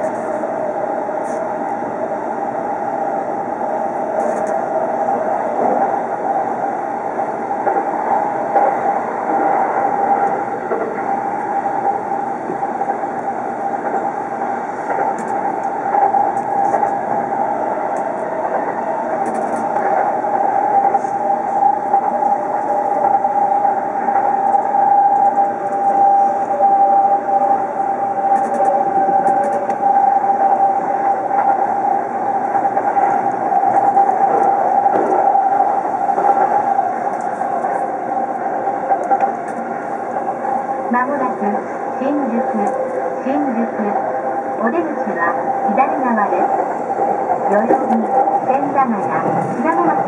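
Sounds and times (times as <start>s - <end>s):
train wheels rumbling on rails: 0.0s - 50.0s
train whine: 0.0s - 50.0s.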